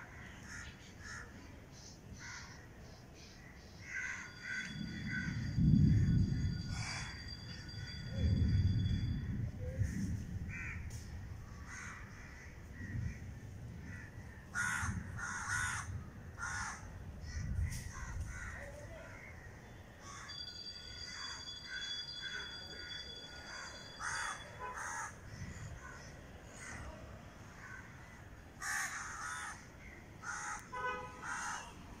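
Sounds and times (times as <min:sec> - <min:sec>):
crows cawing: 0:00.0 - 0:01.5, 0:02.2 - 0:02.7, 0:03.4 - 0:08.1, 0:09.8 - 0:20.4, 0:21.0 - 0:31.8.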